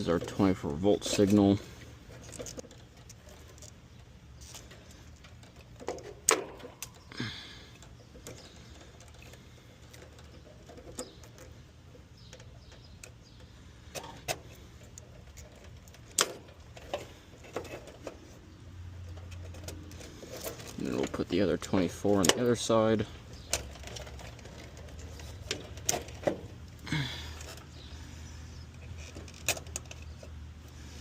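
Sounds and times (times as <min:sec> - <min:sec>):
metal parts and hand tools clicking: 0:00.0 - 0:31.0.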